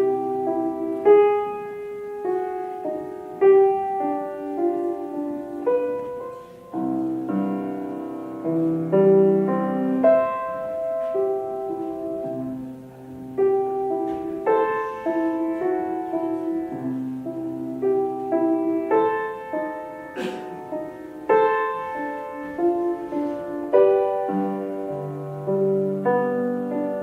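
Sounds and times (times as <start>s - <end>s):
solo piano piece: 0.0s - 27.0s.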